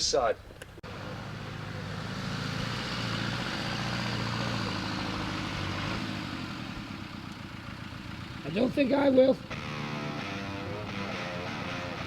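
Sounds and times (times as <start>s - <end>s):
vehicle engine running: 0.7s - 12.0s.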